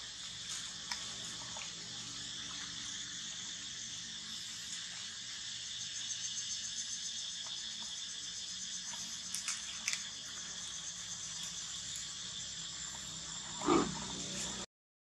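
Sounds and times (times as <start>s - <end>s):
insect chorus buzzing: 0.0s - 14.7s
pulsing insect chirp: 0.0s - 14.7s.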